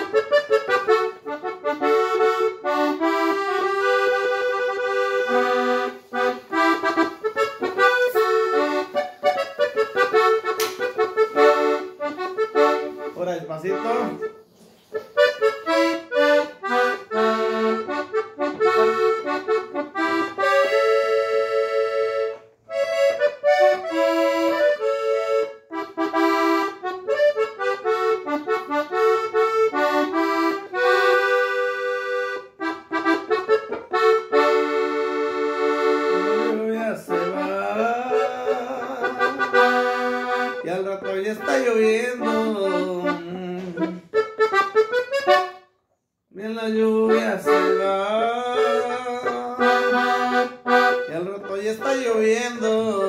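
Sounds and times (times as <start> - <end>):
accordion melody with chords: 0.0 - 53.0.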